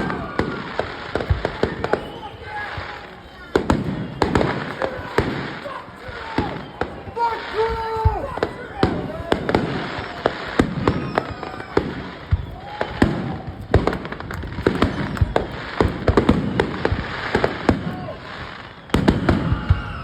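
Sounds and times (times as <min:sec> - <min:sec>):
fireworks bangs: 0:00.0 - 0:20.0
fireworks crackling: 0:00.0 - 0:20.0.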